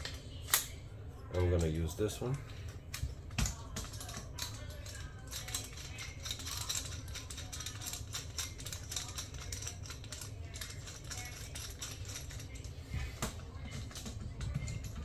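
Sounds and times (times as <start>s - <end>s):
plastic parts clicking and rattling: 2.9s - 15.0s.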